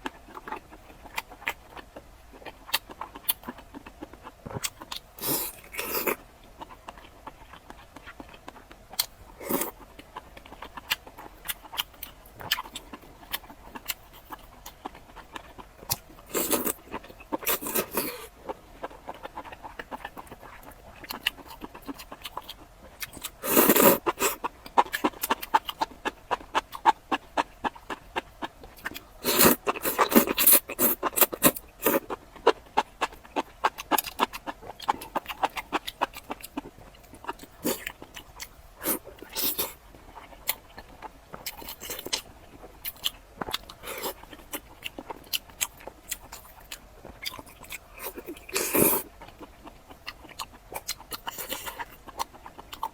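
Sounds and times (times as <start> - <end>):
noisy eating bursts: 0.2 - 52.9.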